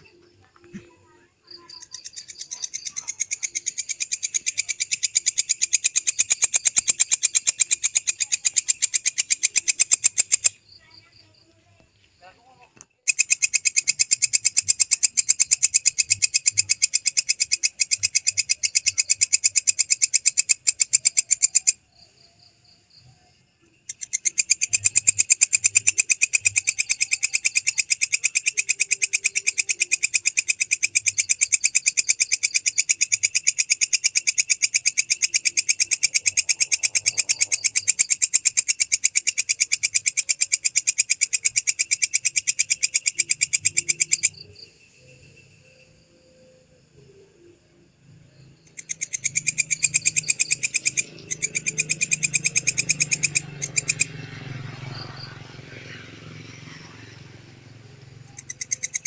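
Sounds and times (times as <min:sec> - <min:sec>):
katydid chirping: 0:00.0 - 0:11.6, 0:12.4 - 0:59.0.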